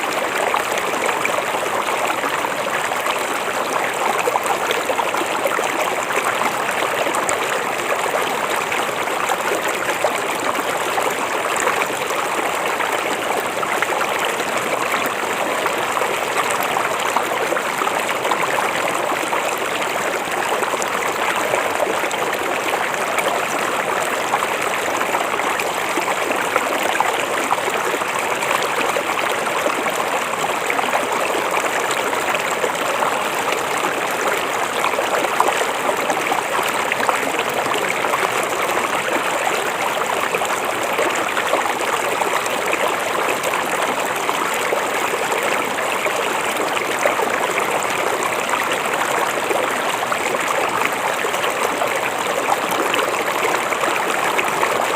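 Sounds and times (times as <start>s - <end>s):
river water flowing over stones: 0.0s - 54.9s.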